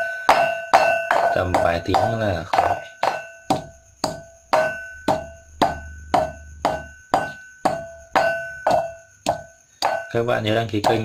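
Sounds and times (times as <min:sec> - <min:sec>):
pestle clinking in mortar: 0:00.0 - 0:11.0.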